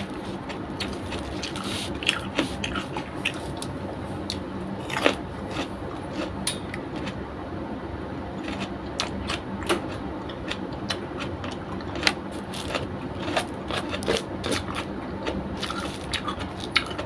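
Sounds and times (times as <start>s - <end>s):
chewing and lip-smacking: 0.0s - 7.2s, 8.4s - 17.0s.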